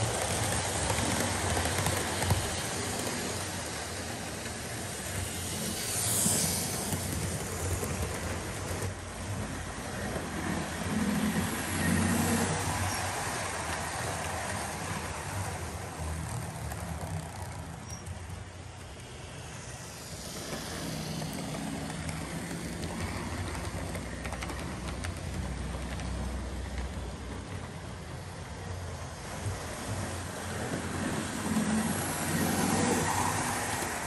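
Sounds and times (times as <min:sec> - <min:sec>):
model train motor hum: 0:00.0 - 0:34.0
wheel noise on track: 0:00.0 - 0:34.0
wheels clicking over rail joints: 0:00.0 - 0:34.0.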